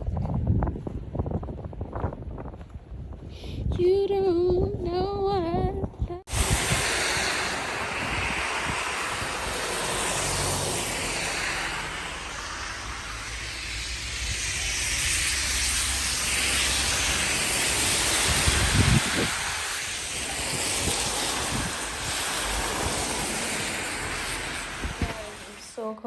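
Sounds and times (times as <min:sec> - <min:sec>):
wind gusting: 0:00.0 - 0:03.8, 0:04.5 - 0:25.9
wind buffeting microphone: 0:00.0 - 0:25.8.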